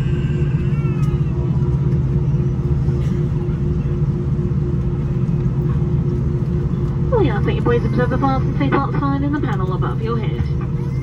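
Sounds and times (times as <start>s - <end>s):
airliner cabin rumble: 0.0s - 11.0s
steady hum tone: 0.0s - 11.0s.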